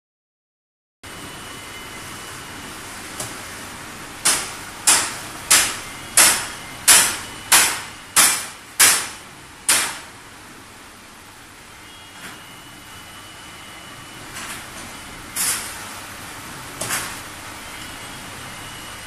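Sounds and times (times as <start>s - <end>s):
machine running noise: 1.0s - 19.0s.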